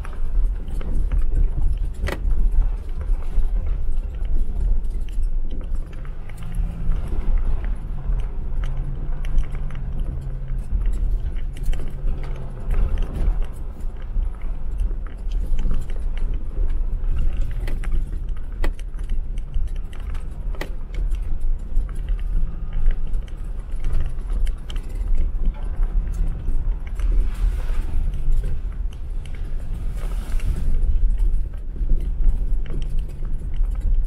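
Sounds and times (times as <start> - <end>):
engine and tyres rumbling: 0.0 - 34.0.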